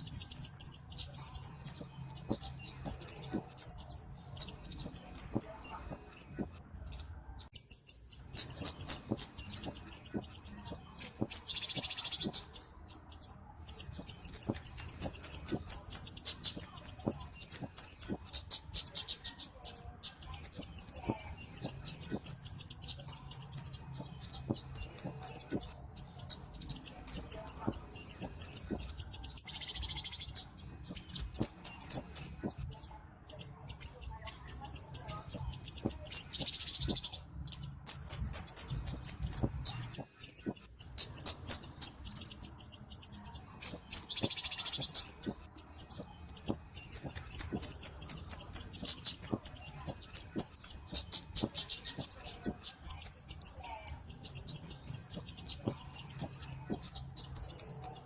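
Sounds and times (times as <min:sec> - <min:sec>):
bird singing high-pitched chirps: 0:00.0 - 0:58.0.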